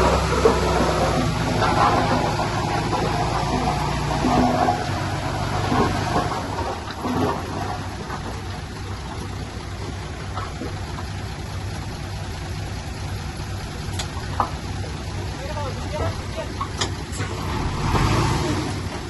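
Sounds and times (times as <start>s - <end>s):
heavy diesel machinery engine hum: 0.0s - 19.0s.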